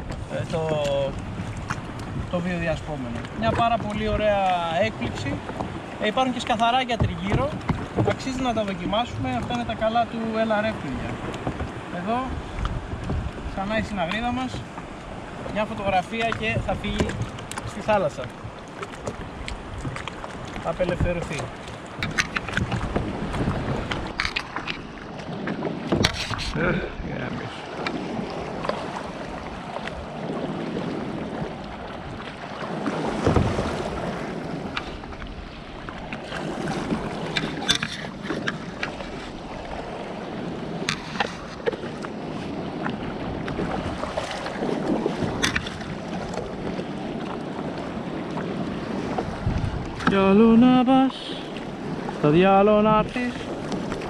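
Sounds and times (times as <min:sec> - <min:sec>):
waves lapping against kayak hull: 0:00.0 - 0:54.0
wind buffeting microphone: 0:00.0 - 0:54.0.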